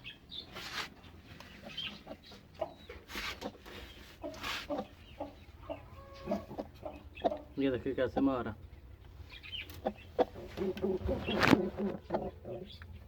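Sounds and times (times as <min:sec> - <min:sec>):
hen clucking: 0:01.4 - 0:08.5, 0:09.2 - 0:12.8.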